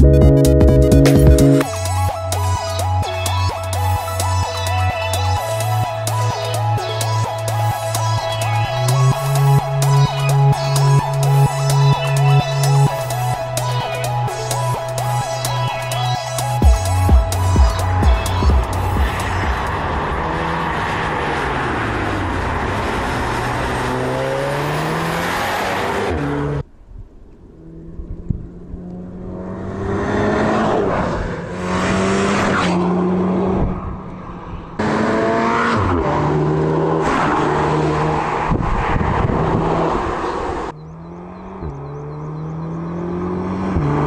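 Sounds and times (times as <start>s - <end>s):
car engine accelerating: 0.0s - 26.7s, 27.4s - 44.0s.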